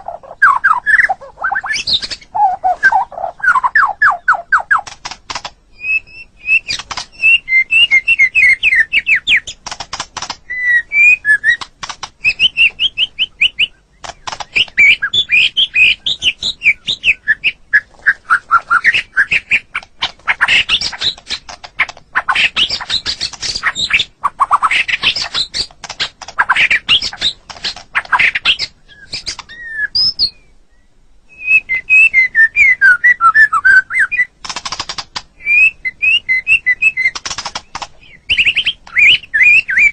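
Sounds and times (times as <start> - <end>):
bird singing trills: 0.0 - 5.0, 5.7 - 9.6, 10.4 - 39.9.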